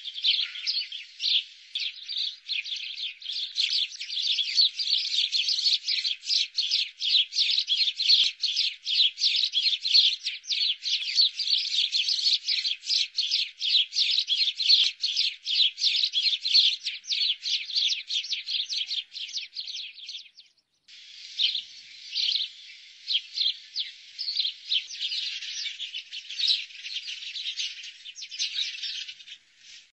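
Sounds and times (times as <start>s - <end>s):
sparrows chirping: 0.0s - 29.9s.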